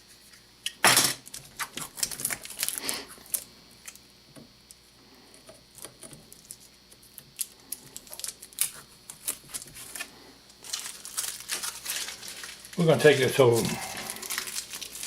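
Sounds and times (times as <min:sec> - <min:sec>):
tape peeling crackle: 0:01.2 - 0:04.0, 0:05.7 - 0:15.0.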